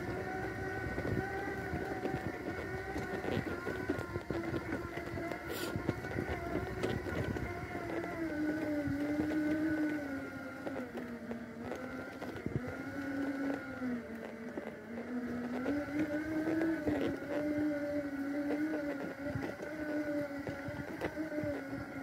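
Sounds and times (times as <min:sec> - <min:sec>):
electric motors whining: 0:00.0 - 0:22.0
wheels knocking on bumpy ground: 0:00.0 - 0:22.0.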